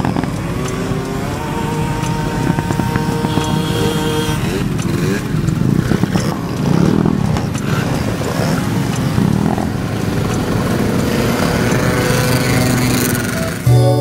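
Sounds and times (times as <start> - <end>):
moped engines running: 0.0 - 14.0.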